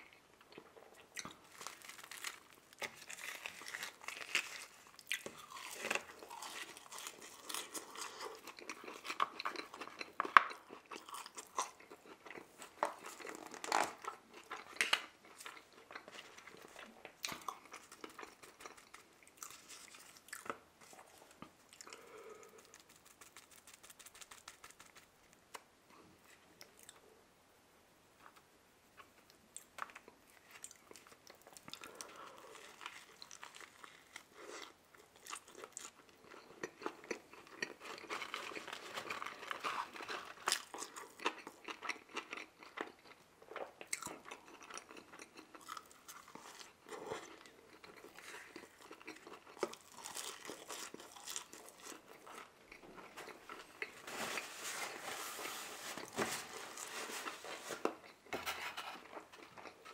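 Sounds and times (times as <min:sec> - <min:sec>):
chewing and crunching food: 0:00.0 - 0:27.1, 0:29.0 - 0:59.9.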